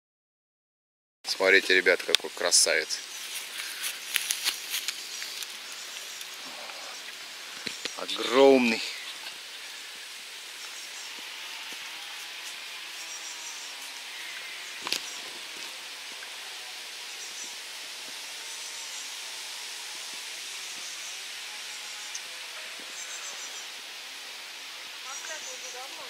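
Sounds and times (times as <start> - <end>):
steady forest hiss: 1.3 - 26.0.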